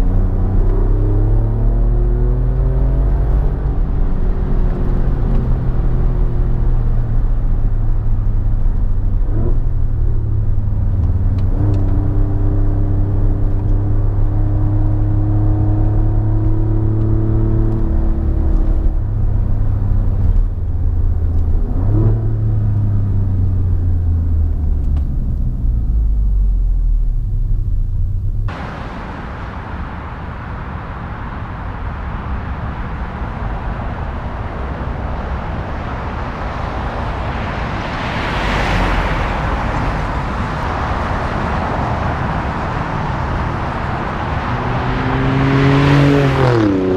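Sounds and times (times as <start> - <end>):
car engine from inside cabin: 0.0 - 46.9.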